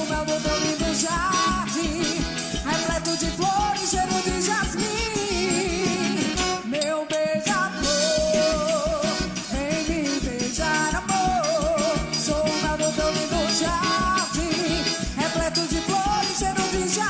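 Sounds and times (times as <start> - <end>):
folk dance music playing loudly: 0.0 - 17.0
steady bass drum beat: 0.0 - 17.0.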